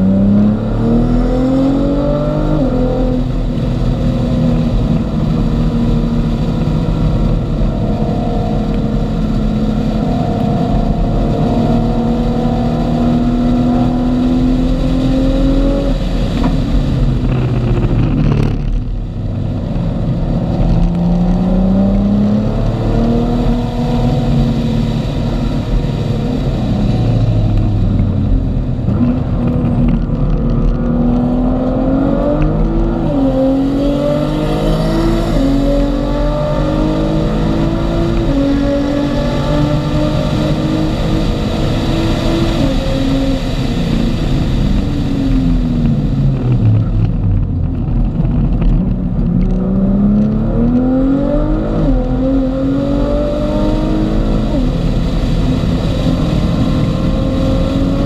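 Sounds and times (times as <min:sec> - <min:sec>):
car engine revving inside cabin: 0:00.0 - 0:58.0.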